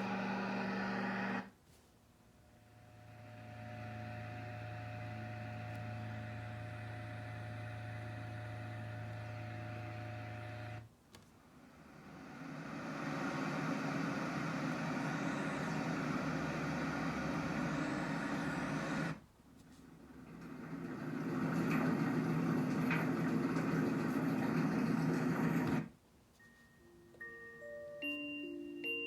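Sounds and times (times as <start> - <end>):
steady hum with tones: 0.0 - 29.0.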